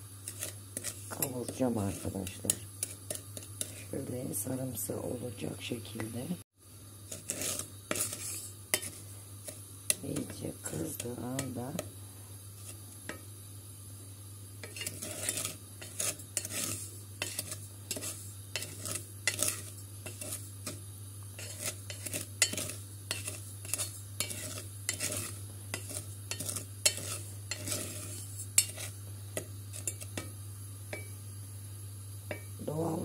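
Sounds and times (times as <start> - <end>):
spoon scraping sugar in a pot: 0.0 - 6.2, 6.9 - 13.3, 14.6 - 31.2, 32.3 - 33.0
steady low hum: 0.0 - 33.0.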